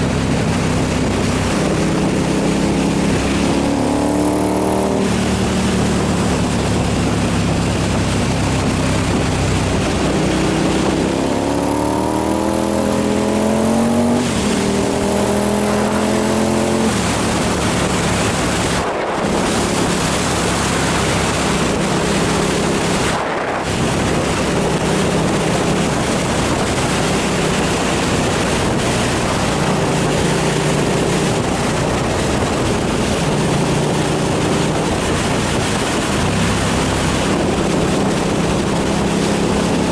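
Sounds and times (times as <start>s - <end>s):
motorcycle engine under way: 0.0s - 39.9s
wind rush on microphone: 0.0s - 39.9s.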